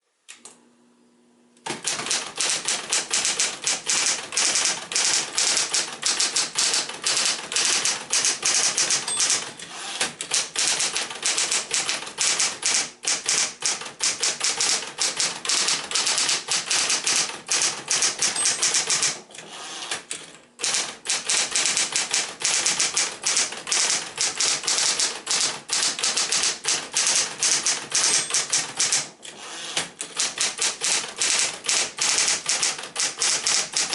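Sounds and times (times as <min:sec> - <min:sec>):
electric typewriter typing fast: 0:01.7 - 0:33.9.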